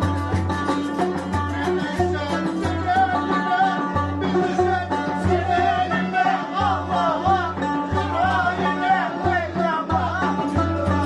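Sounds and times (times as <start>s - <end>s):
clarinet and lute melody: 0.0s - 11.0s.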